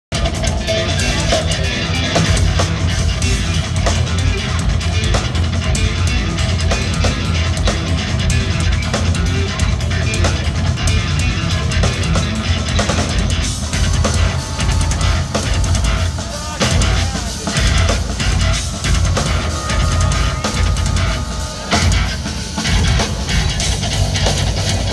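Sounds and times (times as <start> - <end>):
distorted electric guitar: 0.1 - 24.9
rock drum kit: 0.1 - 24.9.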